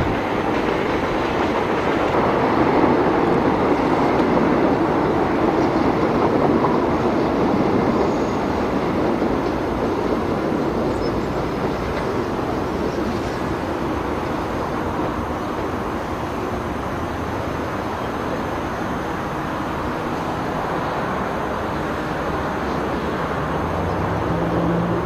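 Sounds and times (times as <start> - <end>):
passenger train rolling: 0.0 - 25.0.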